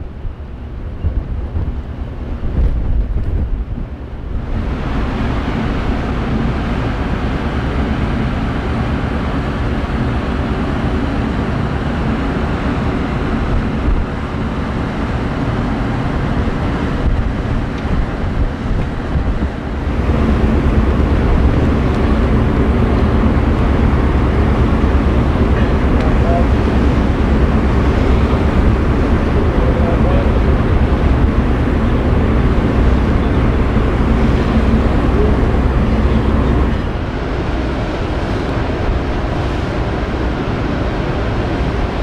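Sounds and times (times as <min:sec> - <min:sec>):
ferry engine hum: 0:00.0 - 0:42.0
rushing noise: 0:00.0 - 0:42.0.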